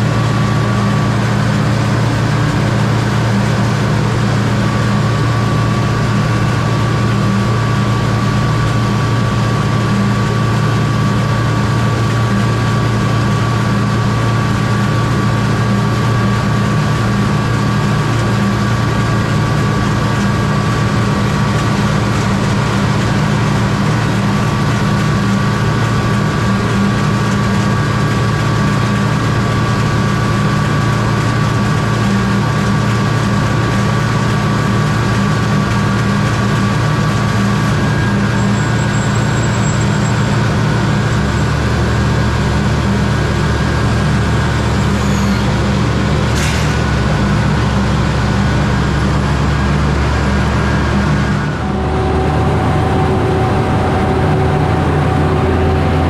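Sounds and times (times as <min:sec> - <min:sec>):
deeper rumble: 0:00.0 - 0:32.2, 0:35.4 - 0:56.0
diesel engine running: 0:00.0 - 0:56.0
thin steady whine: 0:00.0 - 0:56.0.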